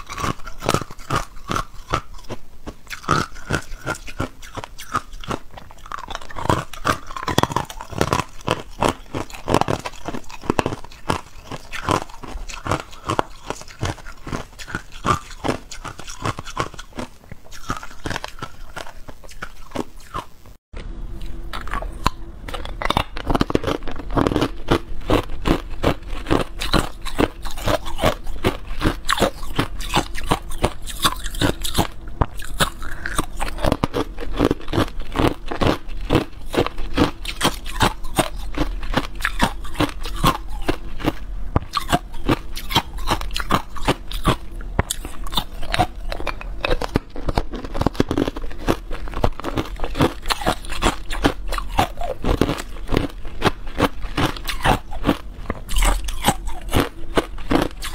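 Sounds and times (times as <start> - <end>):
person crunching ice cubes: 0.0 - 20.3, 21.5 - 57.9.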